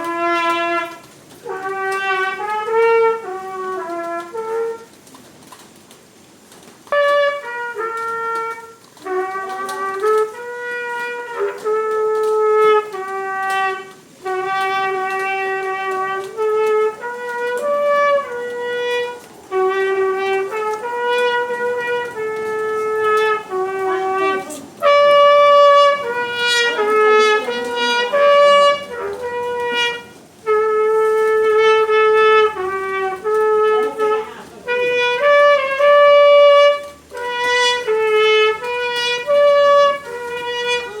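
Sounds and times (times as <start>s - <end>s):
solo trumpet melody: 0.0s - 41.0s.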